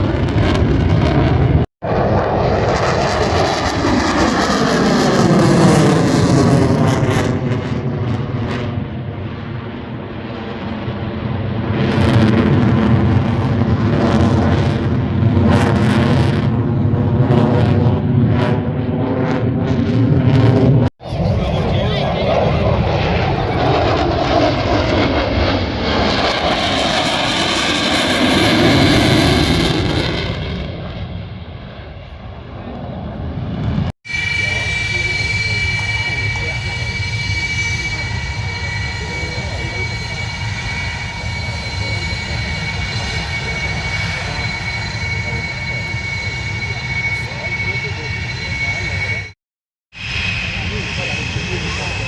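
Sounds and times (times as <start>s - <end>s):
plane flying past: 0.0s - 49.3s, 50.0s - 52.0s
aircraft engine flypast: 0.0s - 49.4s, 50.0s - 52.0s.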